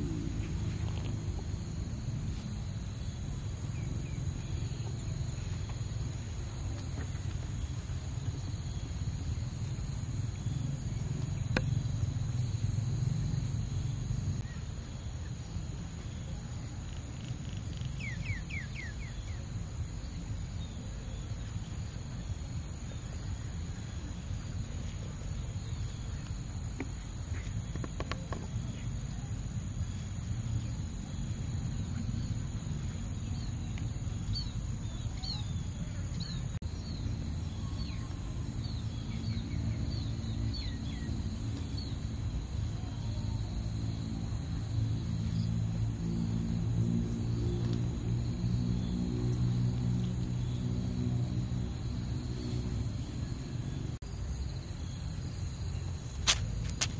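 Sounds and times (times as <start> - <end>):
low steady rumble: 0.0 - 56.6
insect drone: 0.0 - 56.9.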